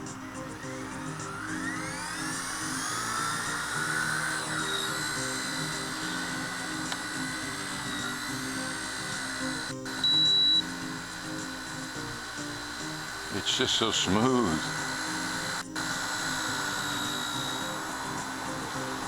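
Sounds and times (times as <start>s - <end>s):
background music: 0.0s - 19.0s
electric motor and rotor whine: 0.0s - 19.0s.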